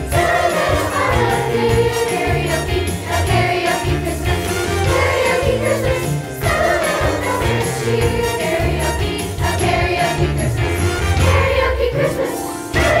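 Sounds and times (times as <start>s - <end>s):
children's chorus singing: 0.0s - 13.0s
musical accompaniment: 0.0s - 13.0s.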